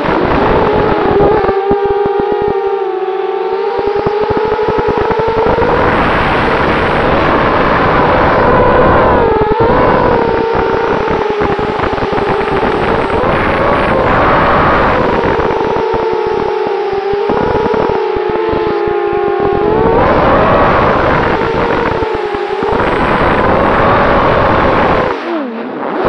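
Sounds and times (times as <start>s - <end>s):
quadcopter motors whining: 0.0s - 26.0s
wind rush on microphone: 0.0s - 26.0s.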